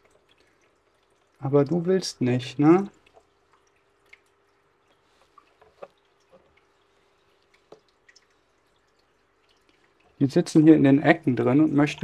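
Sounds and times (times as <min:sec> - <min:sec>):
faint steady hum: 0:00.0 - 0:12.0
faint water drips and splashes: 0:00.0 - 0:12.0.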